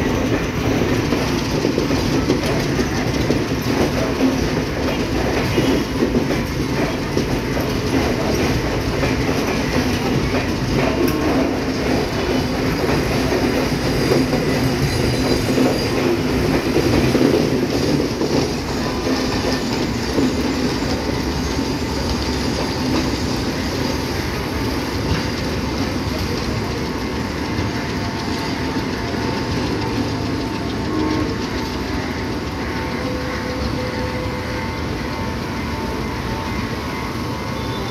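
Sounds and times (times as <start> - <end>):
train wheels clattering on rails: 0.0 - 37.9.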